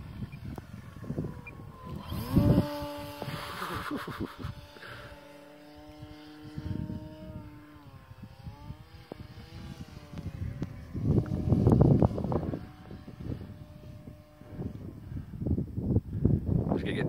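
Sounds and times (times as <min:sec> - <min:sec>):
model plane motor whining: 0:00.0 - 0:16.6
wind buffeting microphone: 0:00.0 - 0:17.0.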